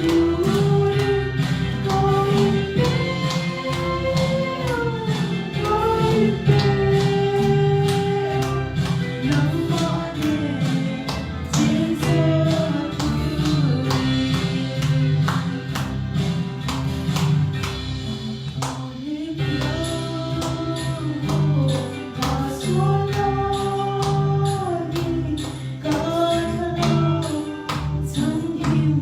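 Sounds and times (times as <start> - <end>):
gospel singing voices: 0.0 - 15.8, 18.8 - 29.0.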